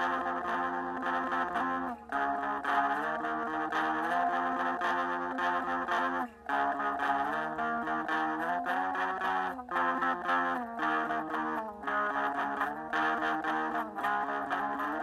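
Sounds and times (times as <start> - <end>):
electric guitar lead notes: 0.0 - 15.0.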